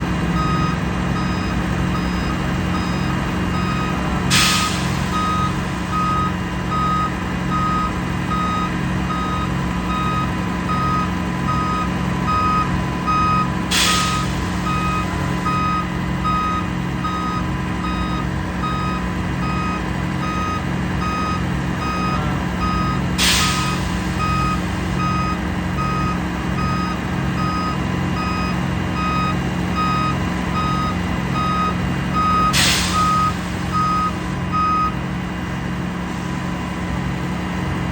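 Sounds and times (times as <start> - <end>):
warning alarm beeping: 0.3 - 35.0.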